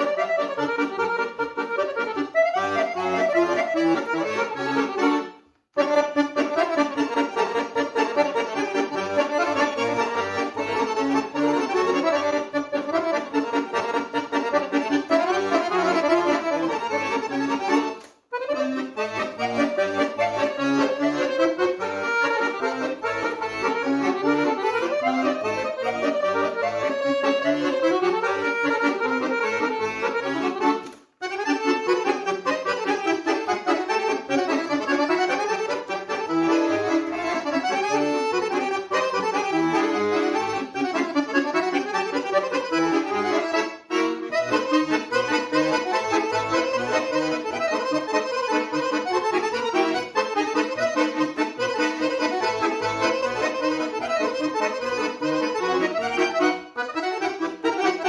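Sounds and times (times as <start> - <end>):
button accordion playing a tune: 0.0 - 58.0.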